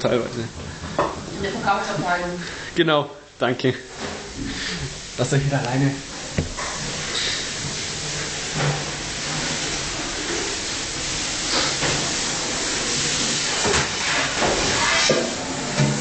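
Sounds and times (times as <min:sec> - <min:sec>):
machinery hiss and hum: 0:00.0 - 0:16.0
running water: 0:00.0 - 0:16.0.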